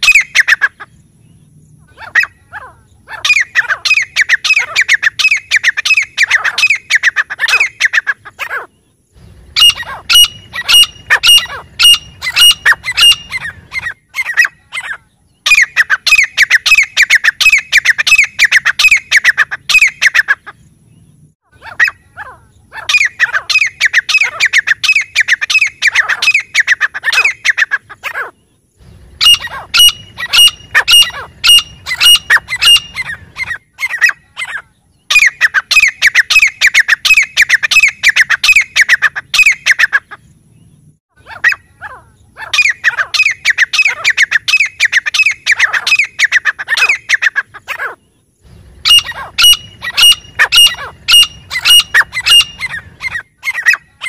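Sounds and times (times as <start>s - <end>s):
bird calling shrill notes: 0.0s - 0.9s, 1.8s - 8.8s, 9.5s - 20.5s, 21.5s - 28.4s, 29.2s - 40.2s, 41.2s - 48.0s, 48.8s - 54.0s.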